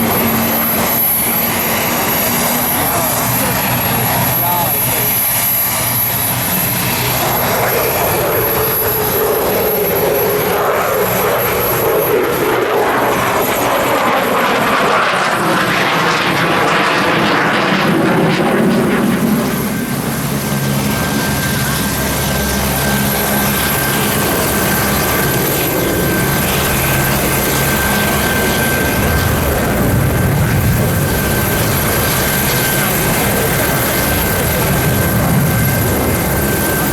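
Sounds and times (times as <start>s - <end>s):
helicopter rotor and engine noise: 0.0s - 36.9s.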